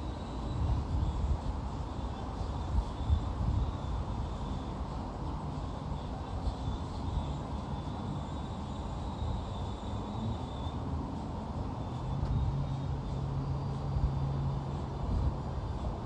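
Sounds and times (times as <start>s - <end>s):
low unsteady rumble: 0.0s - 16.0s.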